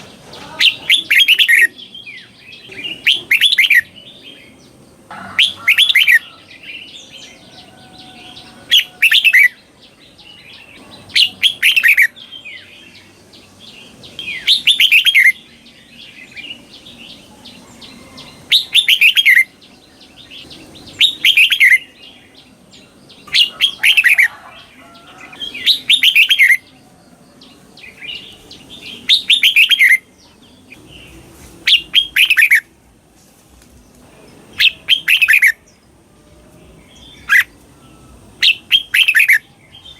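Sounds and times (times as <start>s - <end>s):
bulbul singing: 0.0s - 32.8s, 33.8s - 39.9s.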